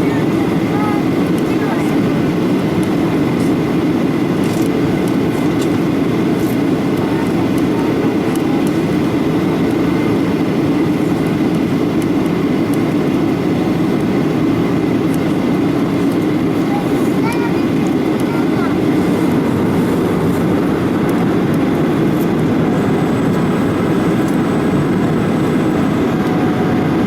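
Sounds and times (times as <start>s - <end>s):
airliner engine and airflow rush: 0.0s - 27.0s.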